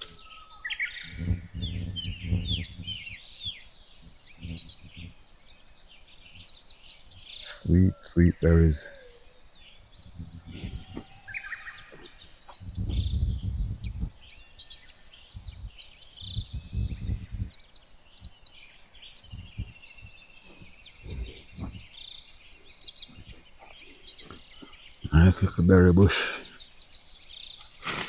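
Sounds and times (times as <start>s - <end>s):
low rumbling on microphone: 0.0s - 26.6s
birds chirping and trilling: 0.0s - 28.0s.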